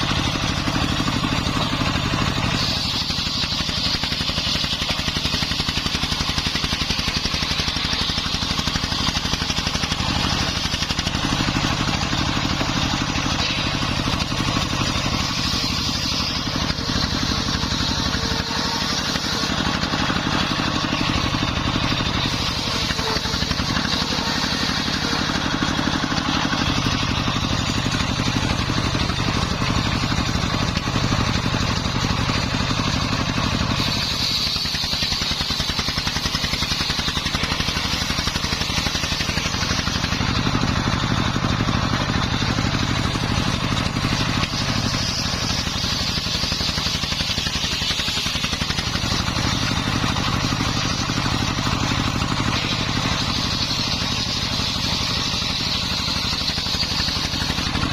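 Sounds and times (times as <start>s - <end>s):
diesel engine running: 0.0s - 57.9s
saw blade whine: 0.0s - 57.9s.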